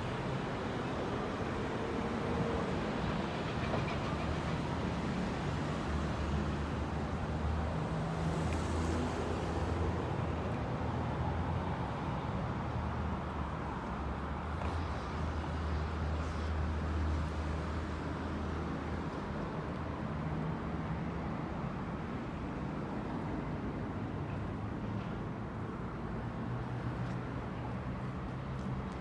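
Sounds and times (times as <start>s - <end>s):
traffic noise: 0.0s - 29.0s.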